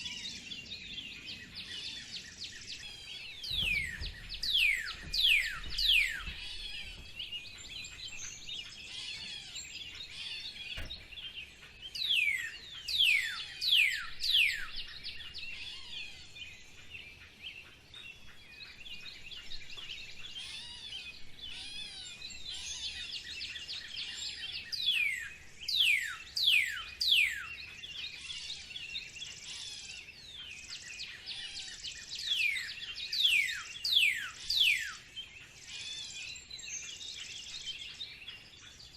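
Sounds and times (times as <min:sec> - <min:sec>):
soft bird chirping: 0:00.0 - 0:38.9.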